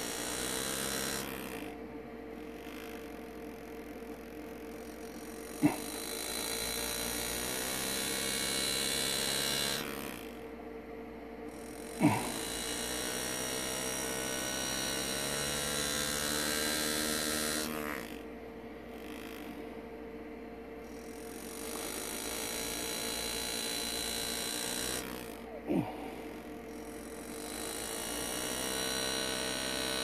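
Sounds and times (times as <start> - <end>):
engraving handpiece buzzing on metal: 0.0 - 10.6, 11.3 - 30.0
steady hum: 0.0 - 30.0.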